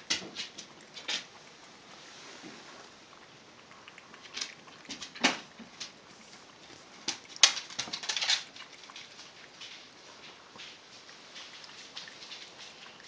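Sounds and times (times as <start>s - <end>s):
cat lapping water: 0.0s - 13.0s.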